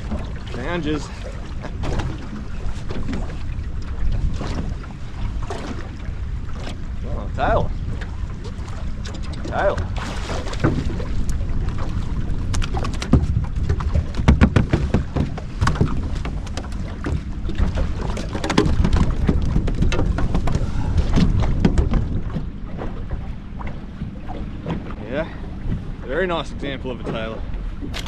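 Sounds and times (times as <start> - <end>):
sharp splashes and knocks: 0.0 - 6.9, 7.9 - 25.0, 26.9 - 28.0
water slapping around boat: 0.0 - 28.0
wind rumbling on microphone: 0.0 - 28.0.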